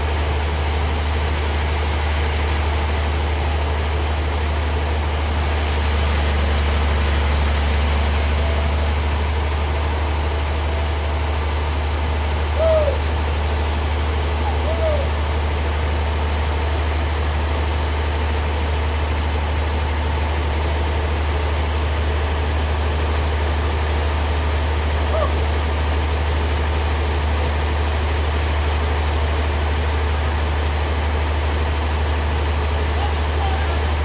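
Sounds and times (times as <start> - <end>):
bandsaw sawmill running: 0.0 - 34.0.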